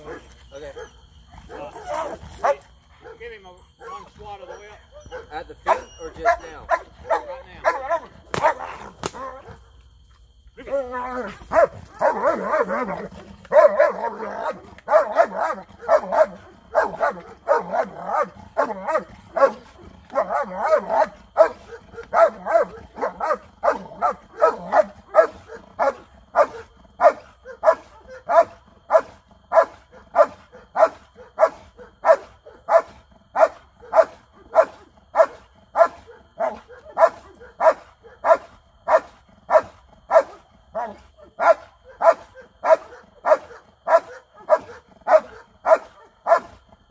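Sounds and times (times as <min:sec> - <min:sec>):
dog barking: 0:00.0 - 0:09.6, 0:11.2 - 0:46.6.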